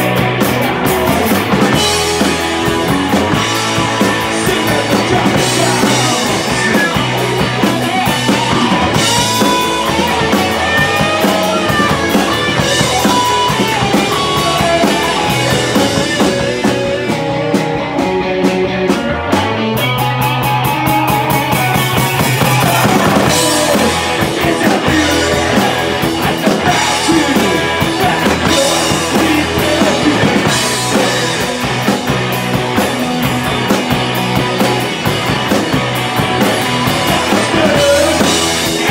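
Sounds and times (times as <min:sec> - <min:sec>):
rock band playing loudly: 0:00.0 - 0:38.9.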